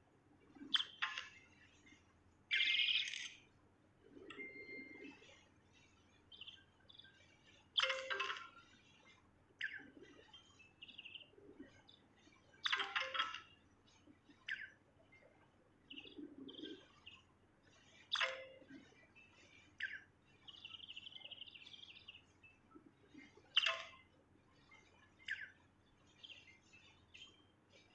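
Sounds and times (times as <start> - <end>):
songbird chirping and singing: 0.5 - 27.9.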